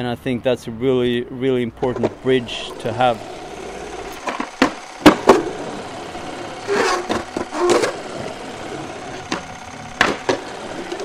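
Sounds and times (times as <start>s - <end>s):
skateboard rolling on concrete: 0.7s - 11.0s
skateboard clacks: 1.8s - 11.0s.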